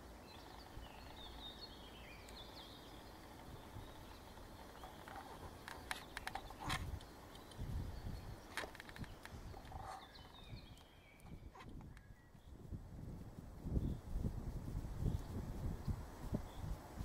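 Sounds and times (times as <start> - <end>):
deer moving in dry undergrowth: 0.0 - 17.0
faint birdsong: 0.0 - 17.0.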